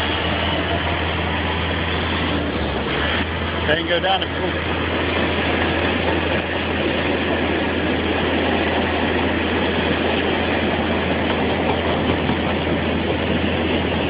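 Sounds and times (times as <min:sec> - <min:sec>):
work platform engine running: 0:00.0 - 0:14.0.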